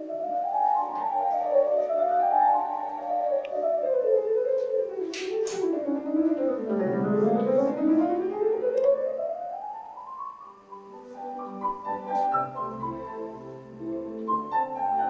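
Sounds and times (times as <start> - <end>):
held musical notes: 0.0 - 15.0.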